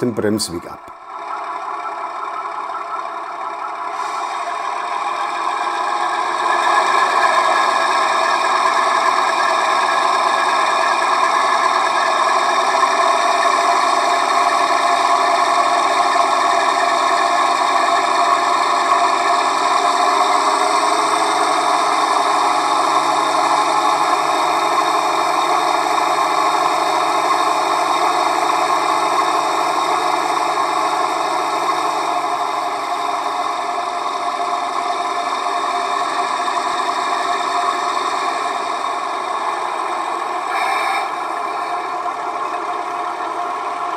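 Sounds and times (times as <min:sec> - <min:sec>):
model locomotive diesel engine sound: 0:00.0 - 0:43.9.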